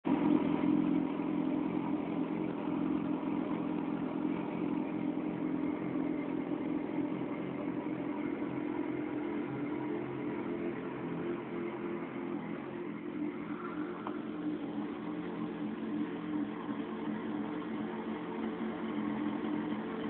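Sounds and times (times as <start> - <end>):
motorcycle engine running steadily: 0.0 - 20.0.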